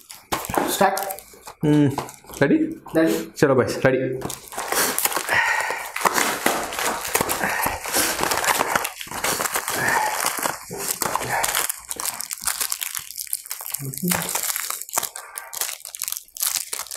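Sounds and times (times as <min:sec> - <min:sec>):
plastic wrappers crinkling: 0:00.0 - 0:02.6, 0:04.2 - 0:16.9.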